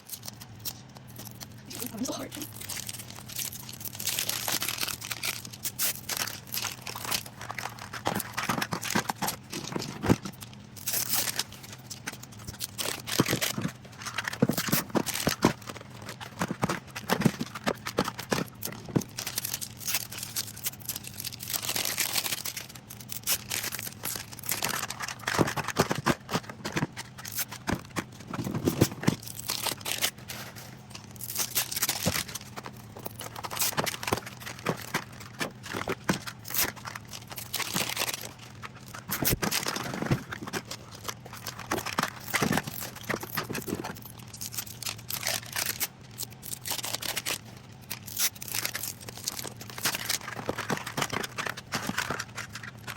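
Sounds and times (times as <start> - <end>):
plastic crinkling rustles: 0.0 - 52.9.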